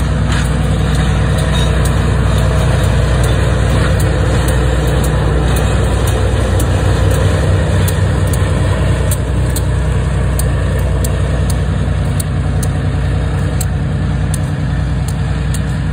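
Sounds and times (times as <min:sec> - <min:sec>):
diesel locomotive engine drone: 0:00.0 - 0:15.9
faint high ticking: 0:00.0 - 0:15.9.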